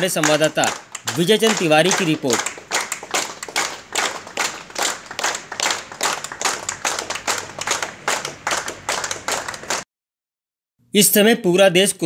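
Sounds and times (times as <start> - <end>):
people clapping in rhythm: 0.0 - 9.8.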